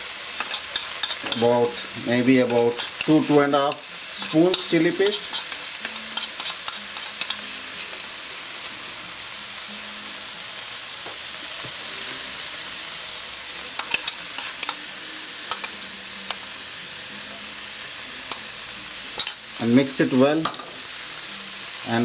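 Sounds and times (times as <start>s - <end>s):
masala sizzling in a frying pan: 0.0s - 22.0s.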